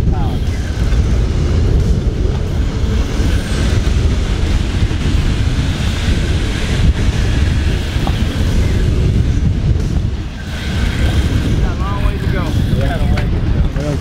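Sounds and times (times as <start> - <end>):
boat rumble: 0.0 - 14.0
choppy sea: 0.0 - 14.0
wind buffeting microphone: 0.0 - 14.0.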